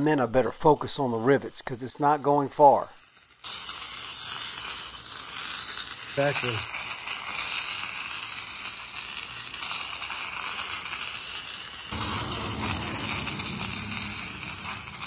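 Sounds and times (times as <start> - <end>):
aerosol spray can hissing: 2.0 - 15.0.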